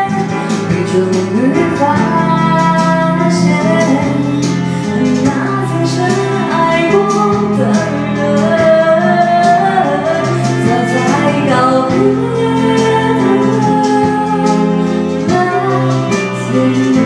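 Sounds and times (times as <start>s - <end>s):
backing track with steady beat: 0.0s - 17.0s
woman singing into a microphone: 0.0s - 17.0s.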